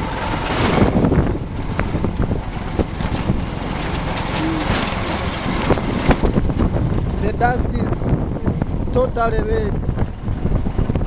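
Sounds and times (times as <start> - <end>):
jeep engine and road rumble: 0.0 - 11.0
knocks and rattles: 0.0 - 11.0.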